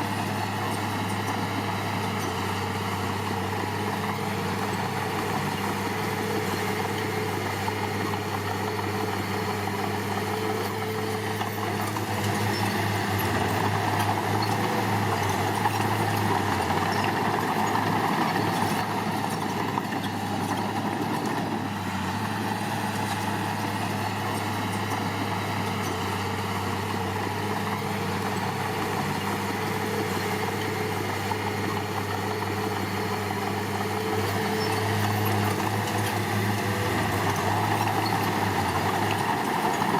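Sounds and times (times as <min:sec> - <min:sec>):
diesel engine of heavy machinery: 0:00.0 - 0:39.9.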